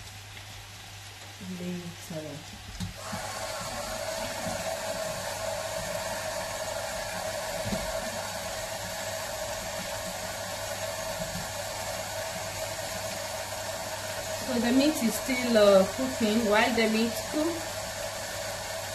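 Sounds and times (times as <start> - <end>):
fan motor whirring: 1.1 - 18.9.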